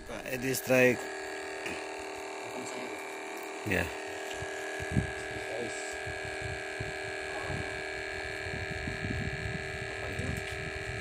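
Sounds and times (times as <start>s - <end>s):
steady multi-pitch hum: 0.0s - 11.0s.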